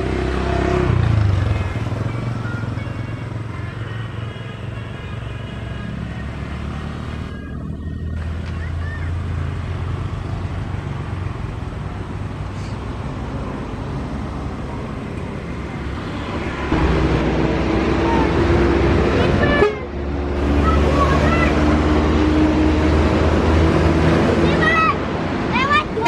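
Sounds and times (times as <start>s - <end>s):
heavy vehicle engine running: 0.0s - 26.0s
traffic passing: 0.0s - 26.0s.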